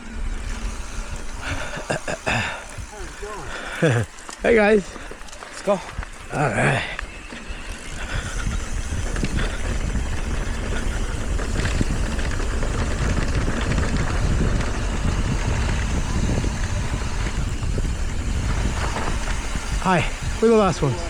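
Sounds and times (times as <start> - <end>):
bike clicks and rattles: 0.0 - 21.0
wind buffeting microphone: 0.0 - 21.0.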